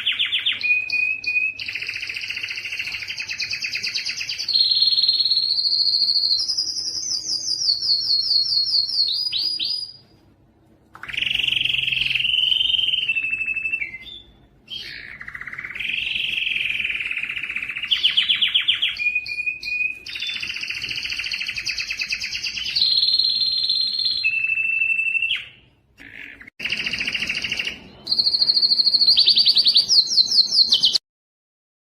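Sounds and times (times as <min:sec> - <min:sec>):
canary singing trills: 0:00.0 - 0:10.1, 0:11.0 - 0:31.0.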